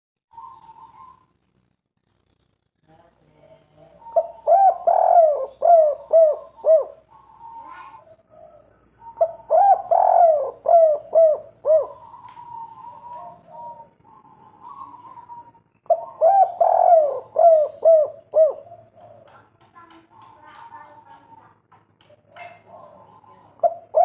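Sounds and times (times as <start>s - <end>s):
dove cooing: 0.3s - 1.3s, 3.9s - 24.0s.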